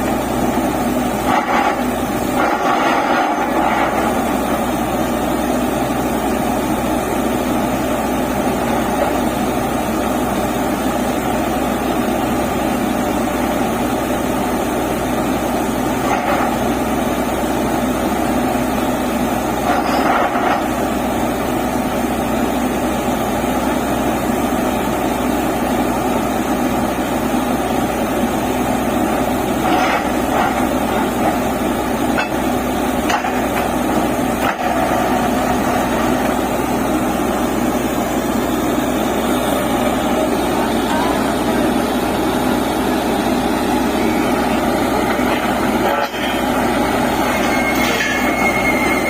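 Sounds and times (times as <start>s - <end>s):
drilling rig running: 0.0s - 49.0s.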